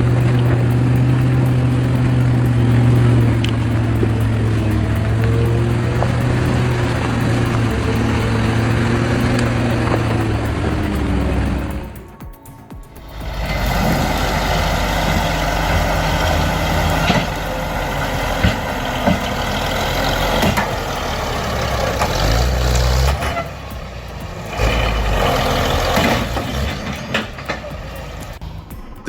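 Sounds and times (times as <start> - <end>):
heavy diesel engine under load: 0.0 - 12.2, 13.0 - 28.8.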